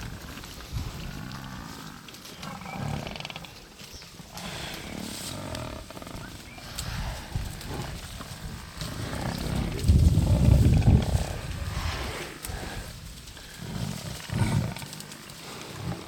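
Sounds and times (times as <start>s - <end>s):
lions growling: 0.8s - 16.0s.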